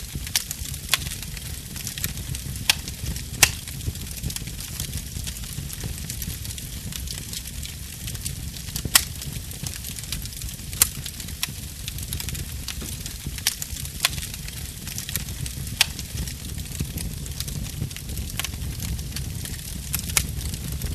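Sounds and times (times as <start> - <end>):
low rumble of flame: 0.0 - 20.9
wood fire crackling and popping: 0.0 - 20.9.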